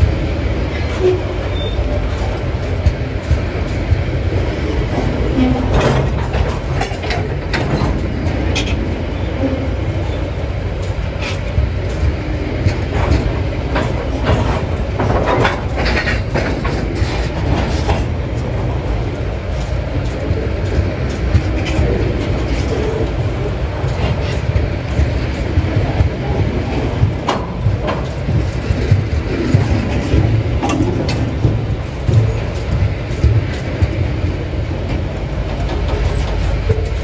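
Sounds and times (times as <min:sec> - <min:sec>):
metallic clanks and clatter: 0:00.0 - 0:37.0
train wagons rumbling on rails: 0:00.0 - 0:37.0.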